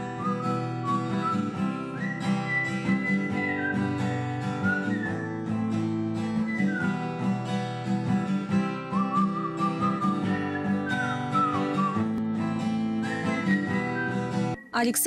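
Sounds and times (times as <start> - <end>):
person whistling a melody: 0.0 - 7.9, 8.5 - 12.2, 12.8 - 14.8
strummed acoustic guitar: 0.0 - 14.6.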